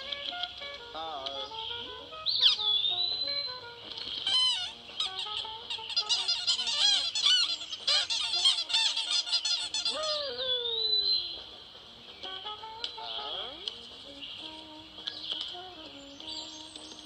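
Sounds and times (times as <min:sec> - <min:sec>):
birds chattering and squawking: 0:00.0 - 0:17.0.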